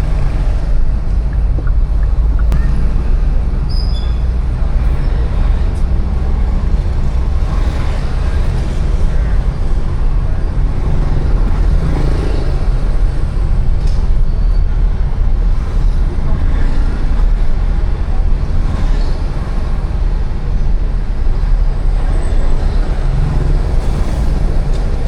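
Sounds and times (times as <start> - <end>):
buses: 0.0 - 25.0
motorbikes: 0.0 - 25.0
passing cars: 0.0 - 25.0.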